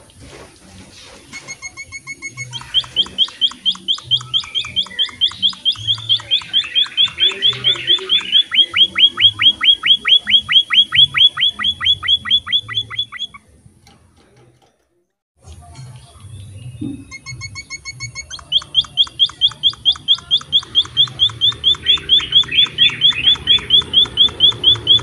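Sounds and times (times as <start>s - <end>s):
finch chirping: 1.4s - 13.4s, 16.4s - 25.0s.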